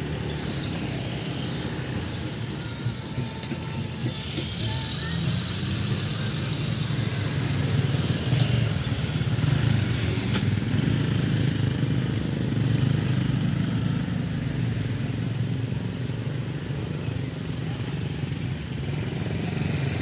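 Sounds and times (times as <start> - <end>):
engines running in slow traffic: 0.0 - 20.0.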